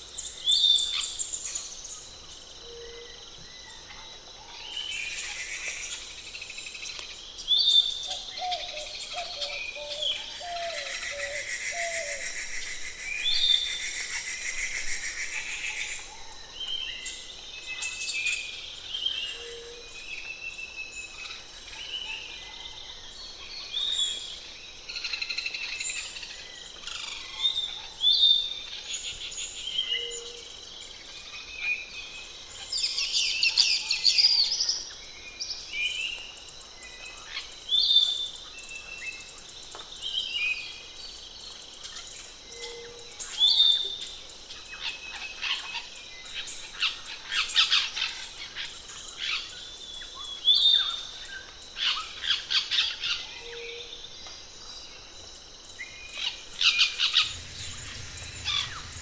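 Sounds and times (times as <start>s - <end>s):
forest birds chirping and trilling: 0.0s - 59.0s.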